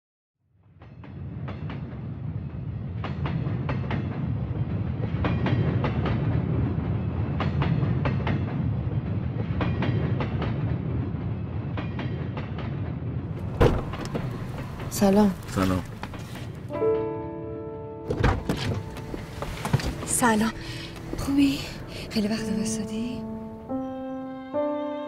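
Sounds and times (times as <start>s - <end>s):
train rumbling on rails: 0.5s - 16.8s, 18.1s - 24.0s
rail clacks: 0.8s - 16.7s, 18.1s - 23.7s.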